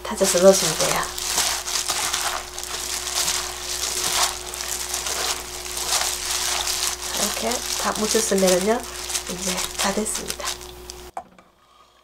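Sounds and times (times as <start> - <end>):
wet squishing of kneaded vegetables: 0.1 - 11.1.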